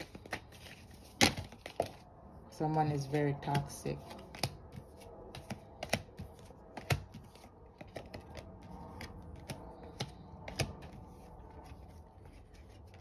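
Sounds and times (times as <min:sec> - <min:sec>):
cards being shuffled: 0:00.0 - 0:02.0, 0:03.5 - 0:13.0.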